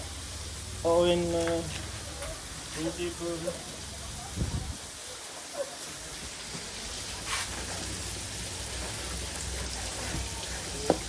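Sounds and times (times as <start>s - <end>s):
food frying sizzling hiss: 0.0s - 11.0s.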